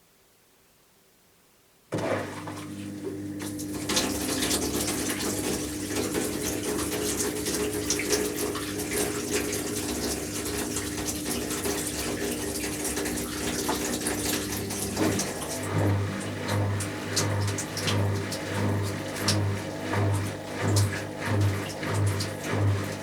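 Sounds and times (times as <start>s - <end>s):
washing machine hum: 1.9s - 23.0s
water splashing in washing machine: 1.9s - 23.0s.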